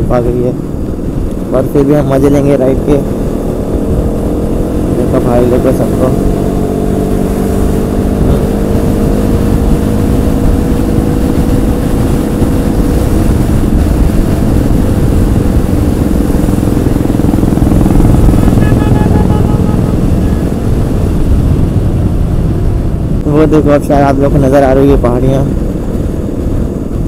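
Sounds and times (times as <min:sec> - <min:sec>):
wind rushing over microphone: 0:00.0 - 0:27.0
motorcycle engine running: 0:00.1 - 0:23.2.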